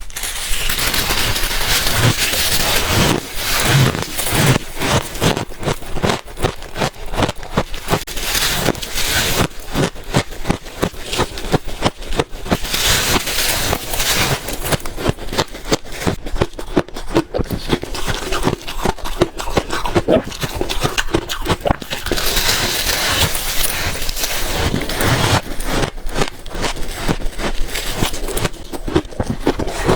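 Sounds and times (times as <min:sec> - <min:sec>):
ice being chewed crunching: 0:00.0 - 0:29.9.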